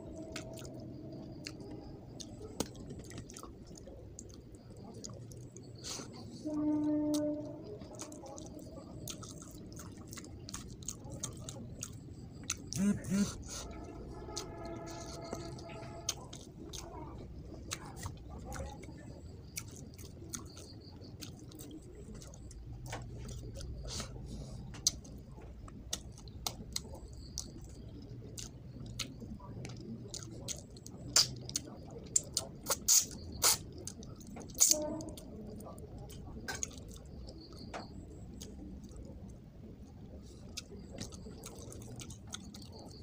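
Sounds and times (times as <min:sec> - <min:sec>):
wet chewing and lip-smacking: 0:00.3 - 0:06.2, 0:07.1 - 0:39.3, 0:40.1 - 0:43.0.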